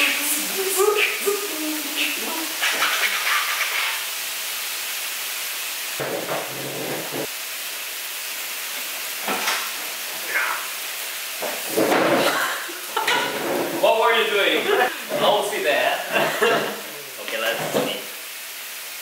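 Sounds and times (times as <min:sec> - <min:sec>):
pork sizzling on a griddle: 0:00.0 - 0:19.0.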